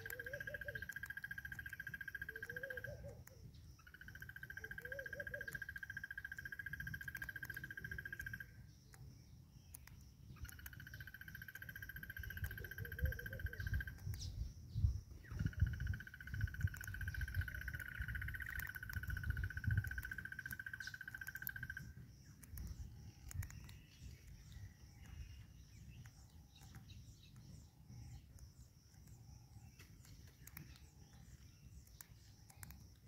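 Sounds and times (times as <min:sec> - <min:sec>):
faint bird chirps: 0:00.0 - 0:33.0
shrill insect chorus: 0:00.0 - 0:33.0.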